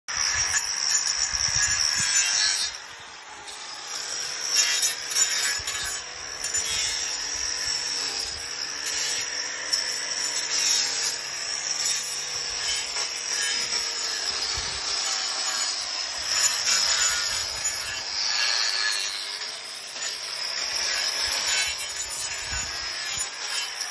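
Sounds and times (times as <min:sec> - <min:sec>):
angle grinder grinding: 0:00.1 - 0:23.9.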